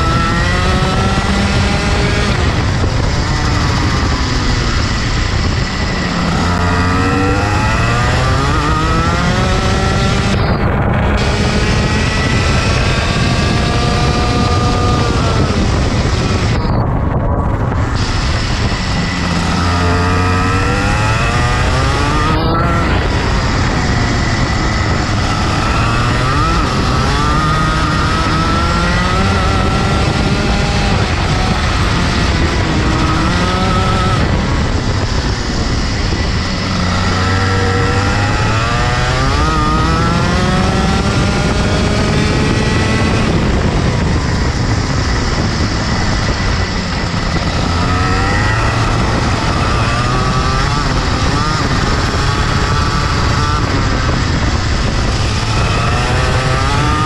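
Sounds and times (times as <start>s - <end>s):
kart engine accelerating: 0.0s - 57.0s.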